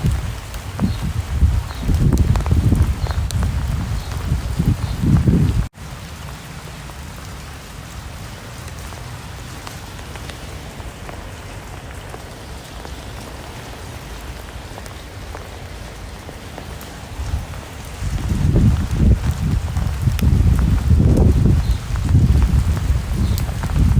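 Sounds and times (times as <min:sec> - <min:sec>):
raindrops ticking: 0:00.0 - 0:23.9
steady rain hissing: 0:00.0 - 0:23.9.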